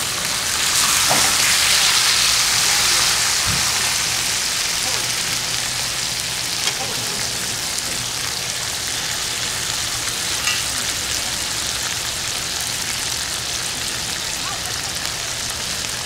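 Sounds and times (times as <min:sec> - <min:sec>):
chicken sizzling on a grate: 0:00.0 - 0:16.0.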